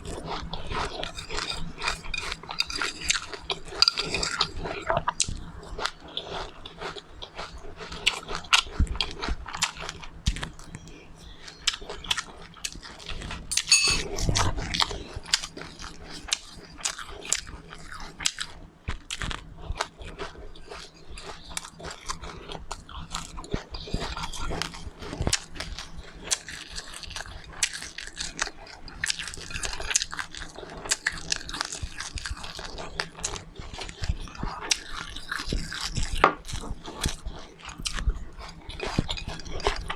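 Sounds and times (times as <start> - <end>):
chewing and crunching seeds: 0.0 - 39.9.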